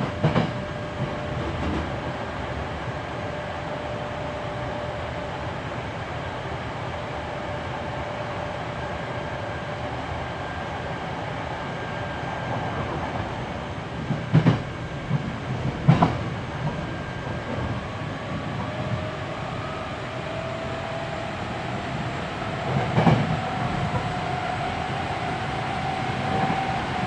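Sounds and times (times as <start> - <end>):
wheels rumbling on rail: 0.0 - 27.0.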